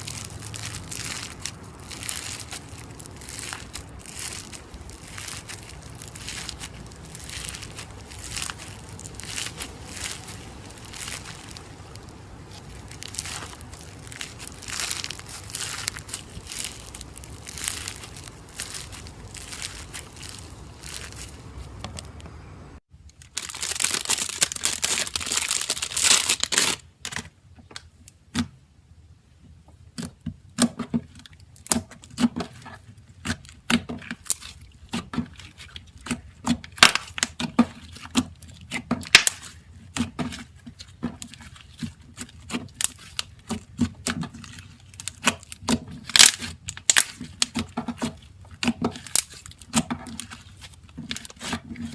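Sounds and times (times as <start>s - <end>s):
slime crackling and popping: 0.0s - 22.3s, 23.1s - 26.8s, 31.5s - 51.9s.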